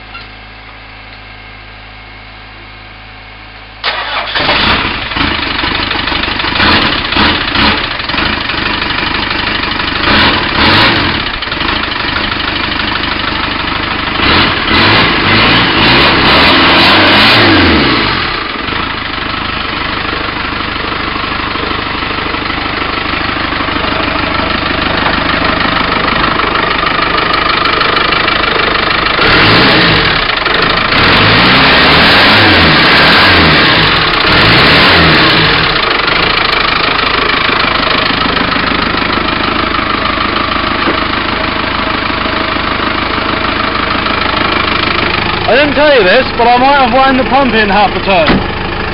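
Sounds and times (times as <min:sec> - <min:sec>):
diesel engine idling and revving: 0:00.0 - 0:48.9.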